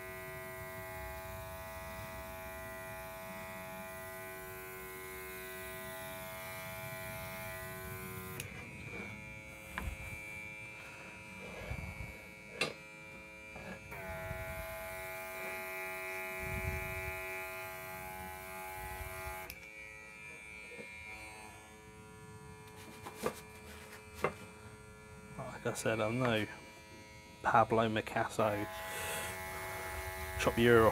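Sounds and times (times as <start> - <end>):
small compressor buzzing: 0.0 - 30.9.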